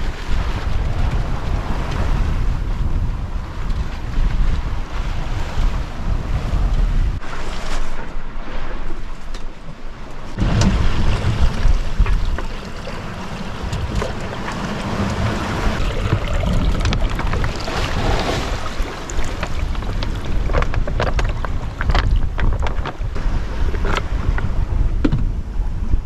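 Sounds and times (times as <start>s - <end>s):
sea rushing along hull: 0.0s - 26.0s
wind buffeting microphone: 0.0s - 26.0s.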